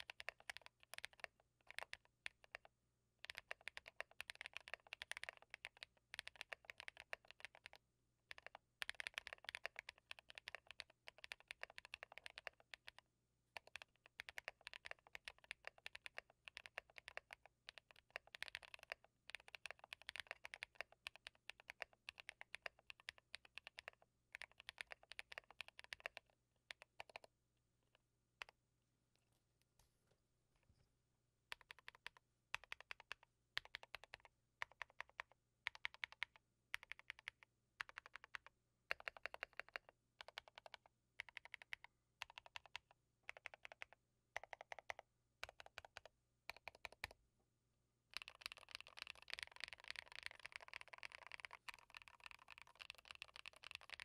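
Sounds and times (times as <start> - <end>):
mechanical keyboard typing: 0.0 - 13.0, 13.6 - 27.3, 31.5 - 47.2, 48.2 - 54.0.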